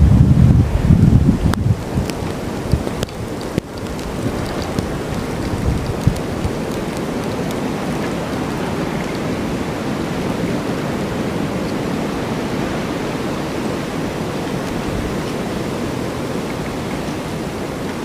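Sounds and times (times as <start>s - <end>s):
snowstorm wind blowing: 0.0s - 18.0s.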